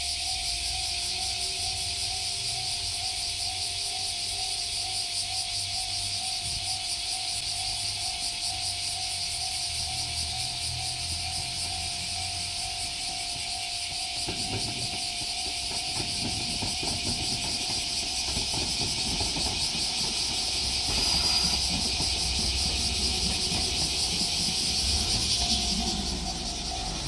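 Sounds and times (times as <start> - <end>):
diesel railcar engine rumble: 0.0 - 27.0
wheels clicking over rail joints: 0.0 - 27.0.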